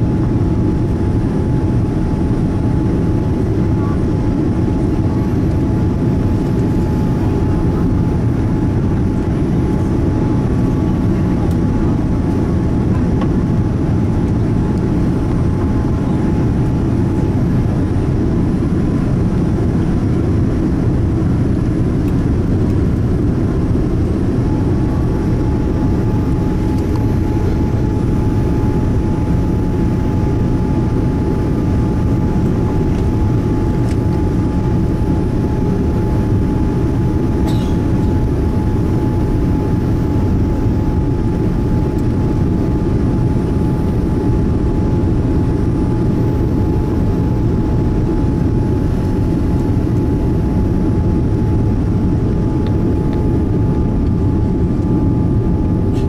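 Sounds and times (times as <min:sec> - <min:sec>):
airplane cabin engine roar: 0:00.0 - 0:56.0
faint steady whine: 0:00.0 - 0:56.0.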